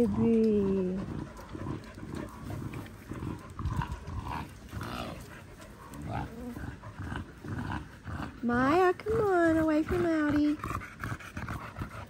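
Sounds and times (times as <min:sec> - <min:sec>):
puppies growling while playing: 0:00.0 - 0:12.0.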